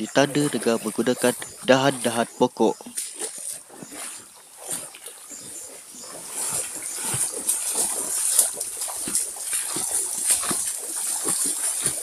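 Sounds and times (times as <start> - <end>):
footsteps splashing in water: 0.0 - 12.0.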